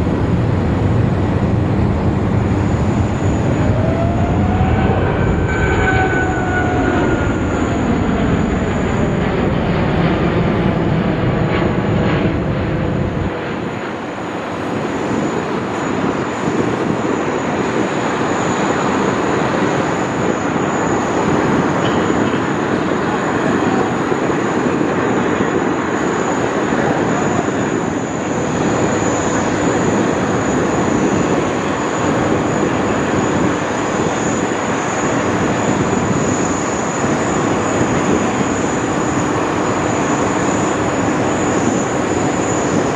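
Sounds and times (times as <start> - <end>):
airliner flying past: 0.0 - 42.9
jet engine whine: 0.0 - 42.9.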